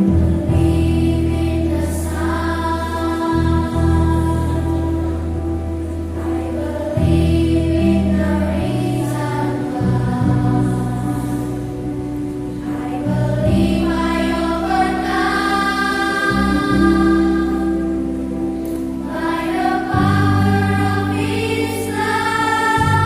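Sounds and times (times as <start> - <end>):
accompaniment holding low notes: 0.0 - 23.0
children's choir singing: 0.0 - 23.0.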